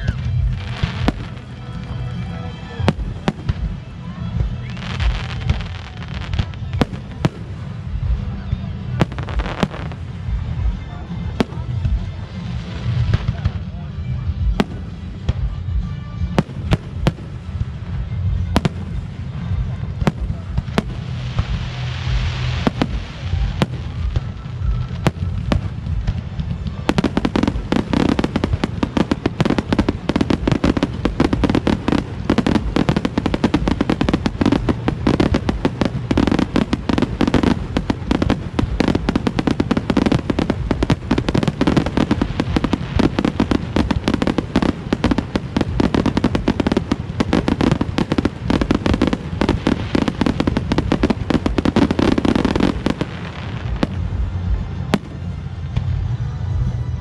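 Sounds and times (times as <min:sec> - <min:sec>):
fireworks bursting: 0:00.0 - 0:13.8, 0:14.4 - 0:56.9.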